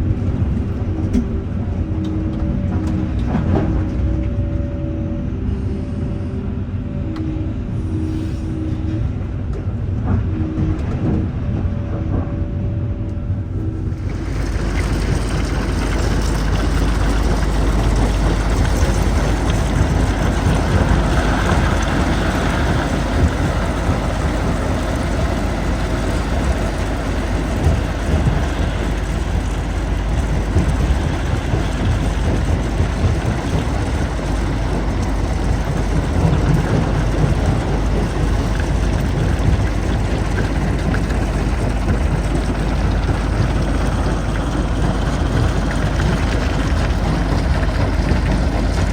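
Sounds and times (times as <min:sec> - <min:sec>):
diesel machinery rumble: 0:00.0 - 0:48.9.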